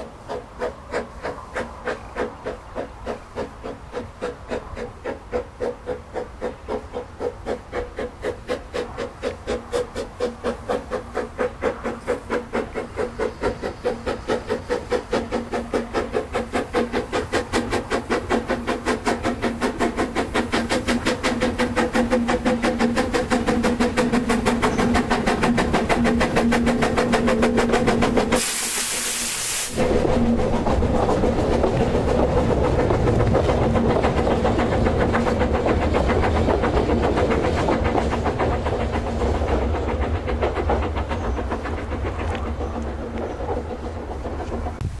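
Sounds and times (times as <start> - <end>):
steam hissing: 0.0 - 45.0
steam locomotive exhaust beats: 0.0 - 45.0.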